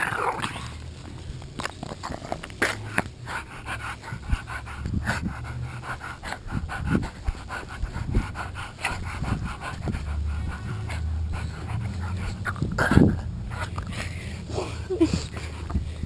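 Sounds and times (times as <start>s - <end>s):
dog panting hard: 2.6s - 16.0s.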